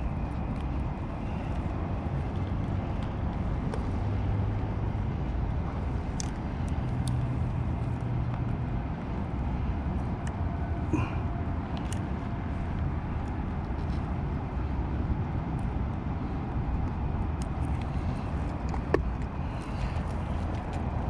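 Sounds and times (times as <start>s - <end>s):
faint engine hum: 0.0s - 21.0s
low outdoor rumble: 0.0s - 21.0s.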